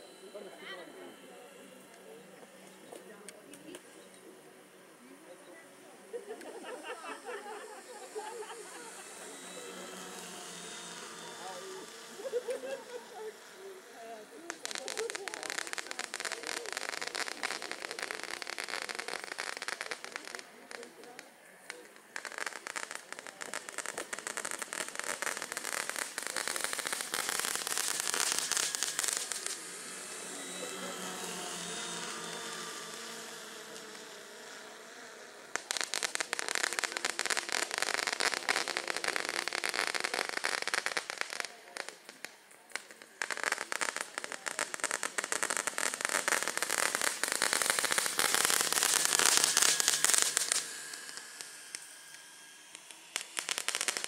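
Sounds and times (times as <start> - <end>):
fireworks crackling: 0.0 - 54.0
quiet steady tones: 0.0 - 54.0.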